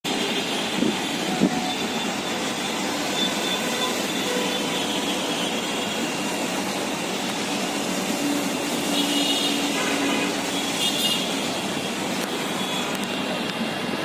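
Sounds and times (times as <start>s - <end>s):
train rumbling past: 0.1s - 14.0s.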